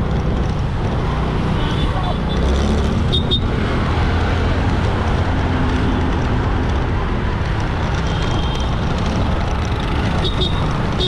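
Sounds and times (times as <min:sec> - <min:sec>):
motorbike engine: 0:00.0 - 0:11.0
road and wind rumble: 0:00.0 - 0:11.0.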